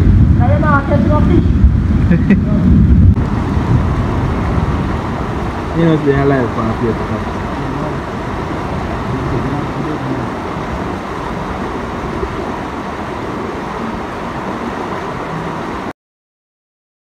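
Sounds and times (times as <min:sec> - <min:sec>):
rushing outdoor noise: 0:00.0 - 0:15.9.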